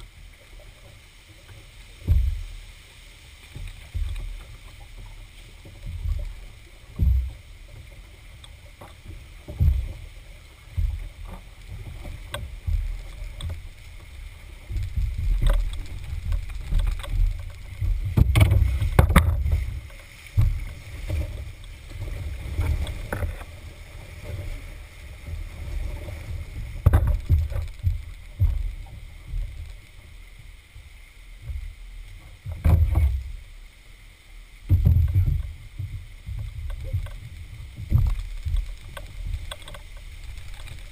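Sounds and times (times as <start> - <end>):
paddle strokes and water on hull: 0.0 - 40.9.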